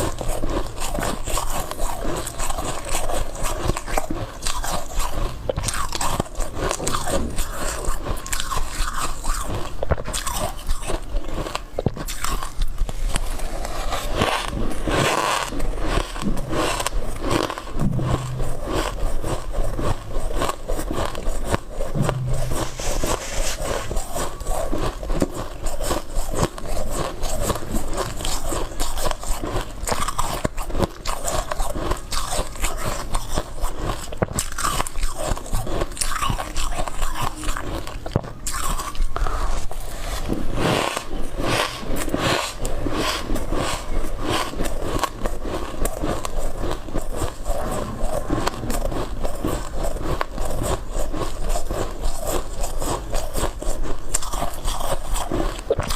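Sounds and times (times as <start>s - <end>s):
crunching ice: 0.0s - 55.9s.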